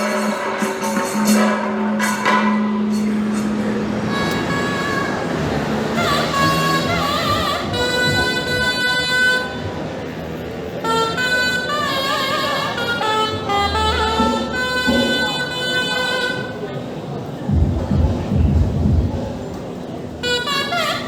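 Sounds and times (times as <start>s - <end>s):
reedy wind instrument melody: 2.0s - 19.0s, 20.0s - 21.0s.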